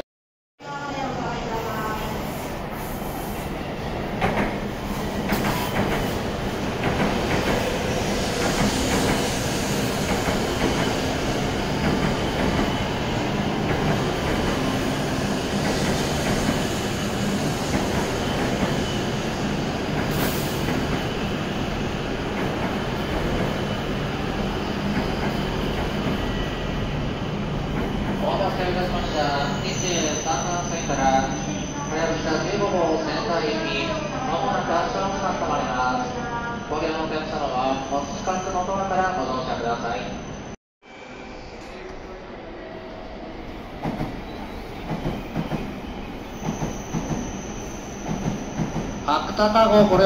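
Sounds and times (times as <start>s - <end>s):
train running noise: 1.0s - 32.9s, 40.3s - 50.0s.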